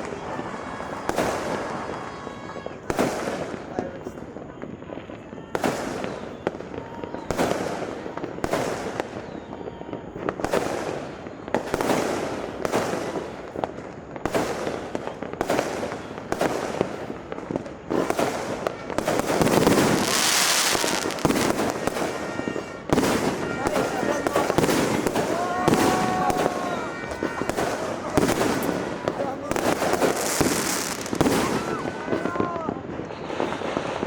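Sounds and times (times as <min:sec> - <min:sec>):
fireworks and firecrackers banging: 0:00.0 - 0:34.0.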